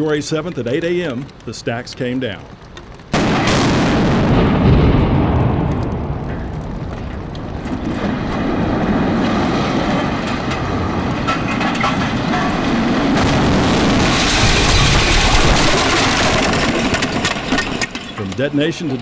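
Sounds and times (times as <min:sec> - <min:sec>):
debris crackling: 0:00.0 - 0:19.0
demolition rumble: 0:00.0 - 0:19.0.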